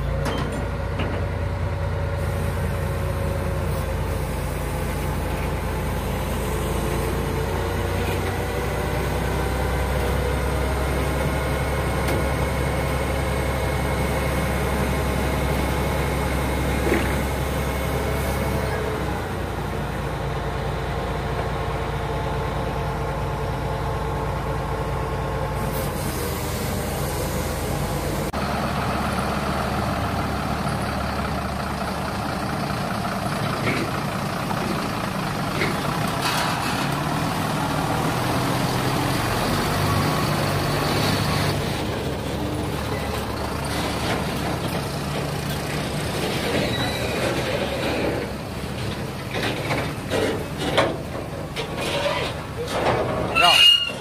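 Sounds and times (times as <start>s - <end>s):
crane diesel engine humming: 0.0s - 54.0s
heavy truck diesel engine: 0.0s - 54.0s.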